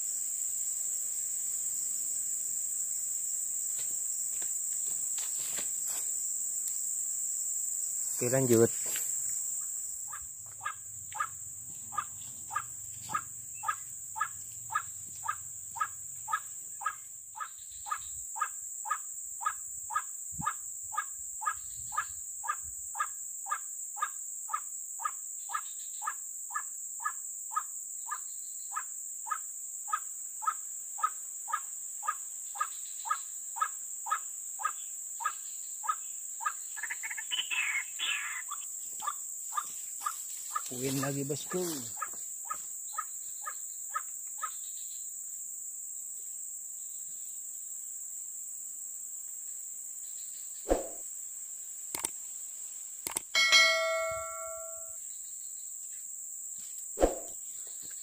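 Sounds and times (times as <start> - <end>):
high insect buzz: 0.0 - 58.0.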